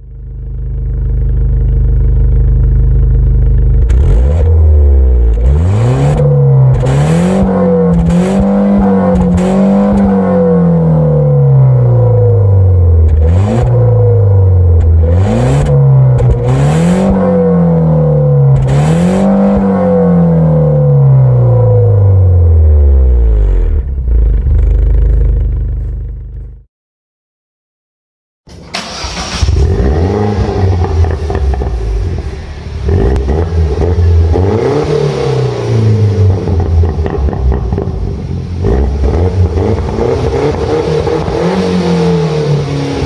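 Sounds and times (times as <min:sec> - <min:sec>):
car engine idling and revving: 0:00.0 - 0:26.7, 0:28.5 - 0:43.0.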